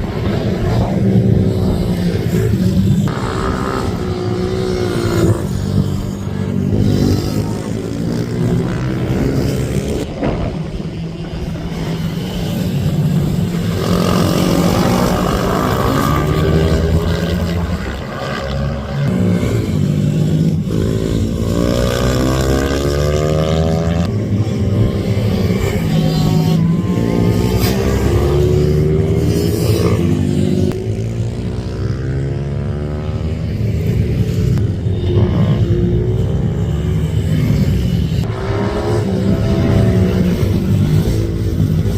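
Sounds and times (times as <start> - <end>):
racing minibike engines: 0.0 - 41.9.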